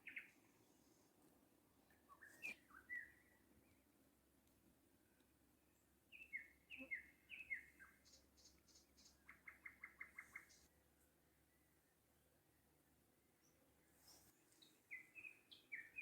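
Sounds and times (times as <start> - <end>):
songbirds singing: 0.0 - 0.5, 1.9 - 3.9, 5.0 - 16.0.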